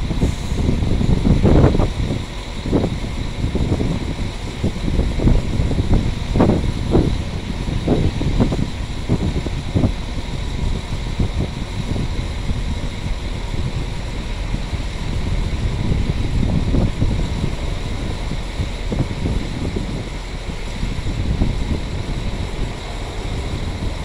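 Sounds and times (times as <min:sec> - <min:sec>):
diesel railcar engine running: 0:00.0 - 0:24.0
wind buffeting microphone: 0:00.0 - 0:24.0.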